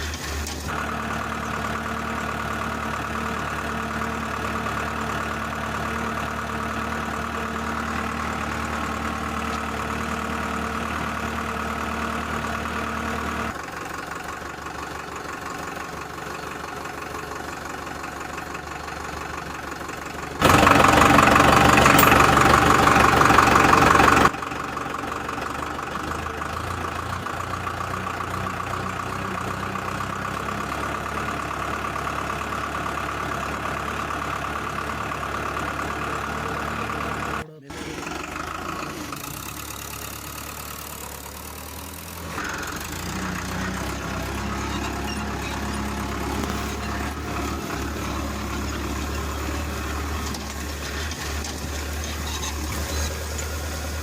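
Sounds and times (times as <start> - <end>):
toy tractor whirring: 0.0 - 54.0.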